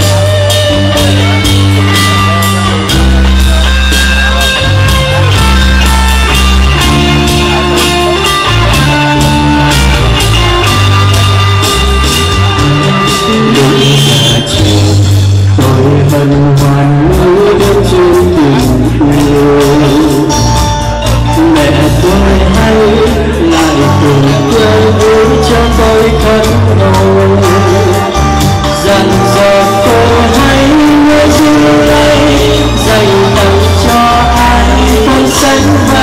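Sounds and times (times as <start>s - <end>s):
man singing into a microphone: 0.0s - 5.5s, 12.1s - 36.0s
backing track with bass and beat: 0.0s - 36.0s.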